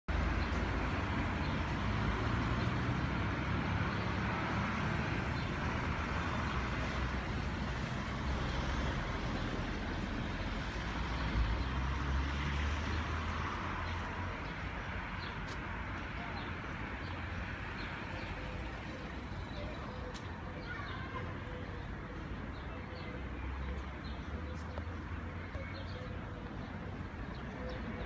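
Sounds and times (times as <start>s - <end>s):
street traffic rumble: 0.1s - 28.0s.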